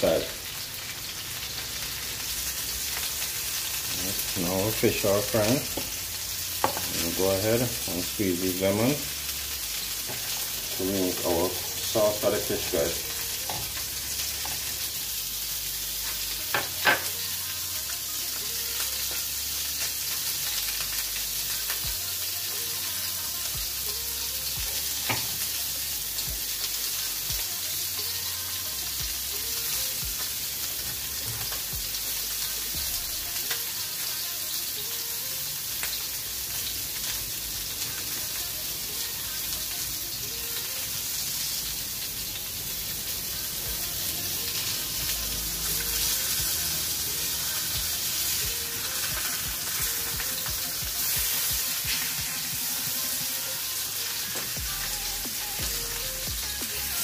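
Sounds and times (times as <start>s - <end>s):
fish frying in oil: 0.0s - 57.0s.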